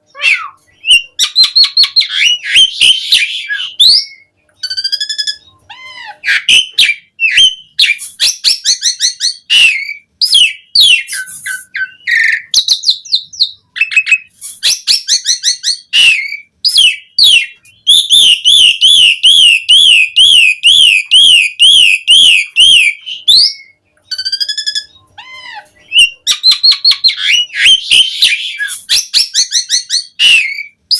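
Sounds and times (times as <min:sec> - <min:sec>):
starling singing: 0:00.0 - 0:30.9.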